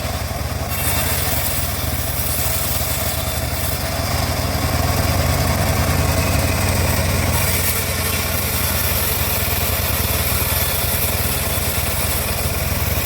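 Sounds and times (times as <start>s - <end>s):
bandsaw mill running: 0.0s - 13.0s.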